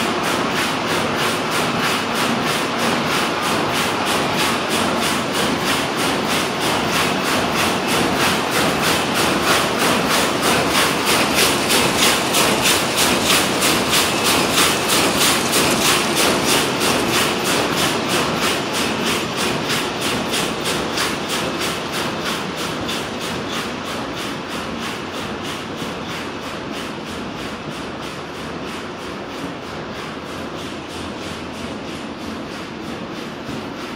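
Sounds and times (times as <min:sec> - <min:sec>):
weaving machine clattering: 0:00.0 - 0:33.9.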